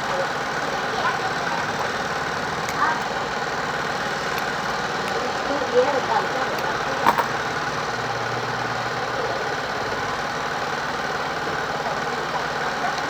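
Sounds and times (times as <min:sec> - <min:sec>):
motor running with fast pulse: 0:00.0 - 0:13.0.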